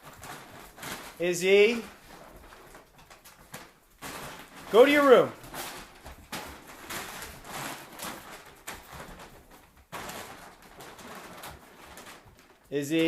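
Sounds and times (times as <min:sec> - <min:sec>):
bag rustling and crinkling: 0:00.0 - 0:13.0.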